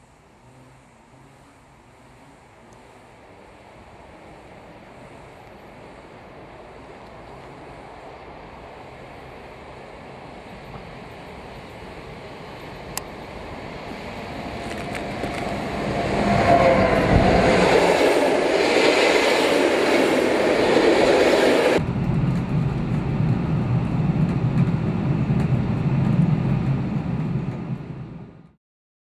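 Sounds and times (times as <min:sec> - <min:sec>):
train wheels rumbling on rails: 0:02.8 - 0:28.5.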